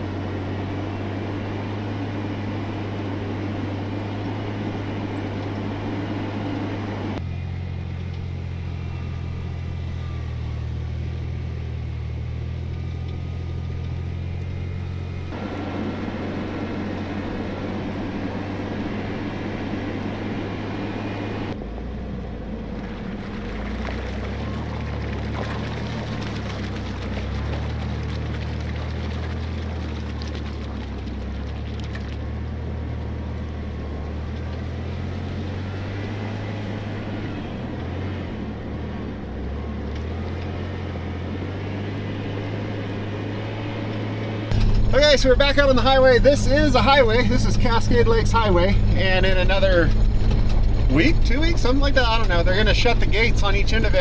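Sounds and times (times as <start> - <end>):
vehicle engine droning under load: 0.0 - 54.0.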